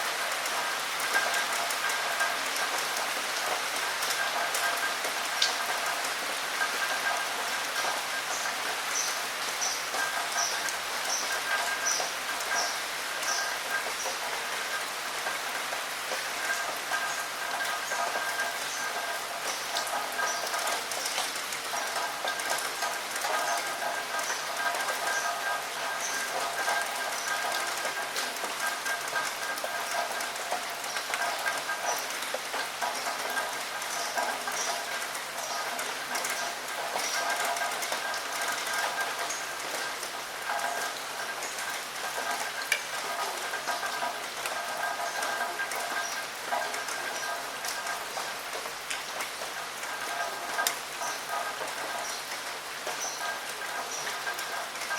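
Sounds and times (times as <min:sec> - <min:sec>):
rain on a window: 0:00.0 - 0:54.9.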